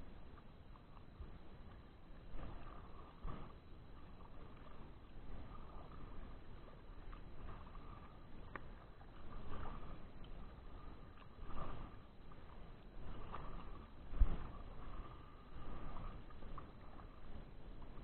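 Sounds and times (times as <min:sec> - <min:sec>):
paddle swishing through water: 0:00.0 - 0:18.0.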